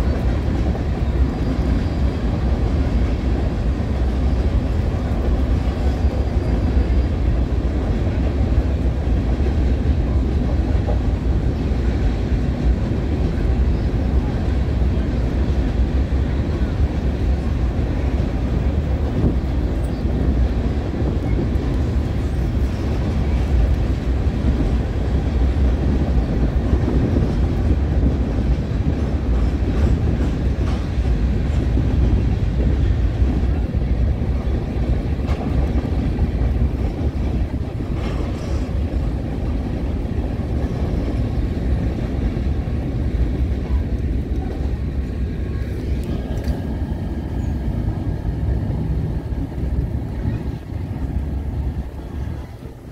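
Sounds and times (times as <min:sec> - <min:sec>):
freight train wheels rumbling: 0:00.0 - 0:52.9.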